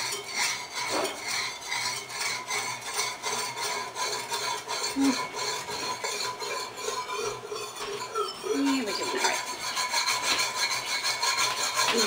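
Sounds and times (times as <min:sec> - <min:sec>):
whisk scraping a pan: 0:00.0 - 0:12.0
wine simmering: 0:00.0 - 0:12.0.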